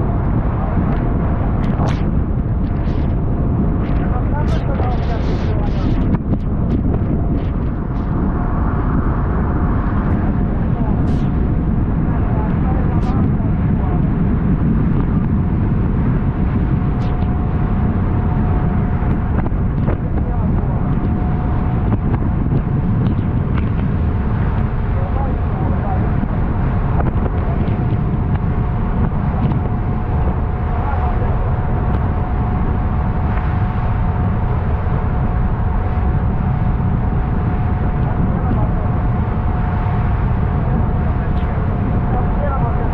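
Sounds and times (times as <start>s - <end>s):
faint whine: 0.0s - 42.9s
motorboat engine rumble: 0.0s - 42.9s
wind on microphone: 0.0s - 42.9s.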